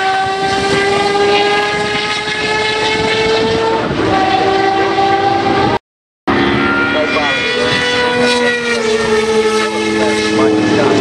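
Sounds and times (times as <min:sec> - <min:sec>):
racing engine at high revs: 0:00.0 - 0:11.0.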